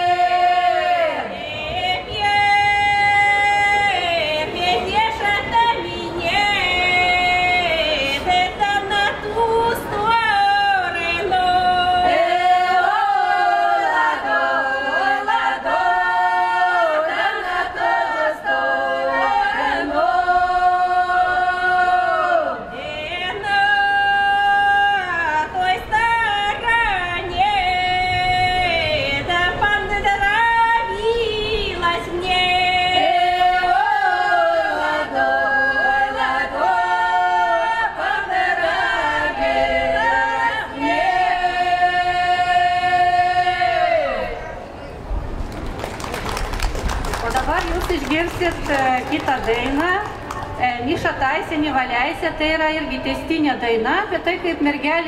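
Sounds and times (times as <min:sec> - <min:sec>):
group singing unaccompanied: 0:00.0 - 0:44.6.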